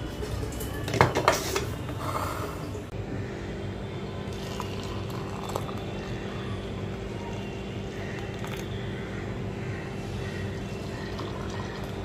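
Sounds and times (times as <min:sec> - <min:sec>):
low machine hum: 0:01.7 - 0:12.0.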